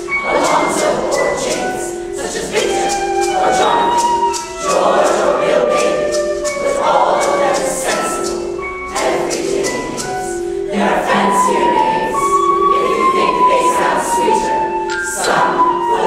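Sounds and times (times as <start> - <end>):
choir singing in unison: 0.0 - 16.0
instrumental accompaniment: 0.0 - 16.0.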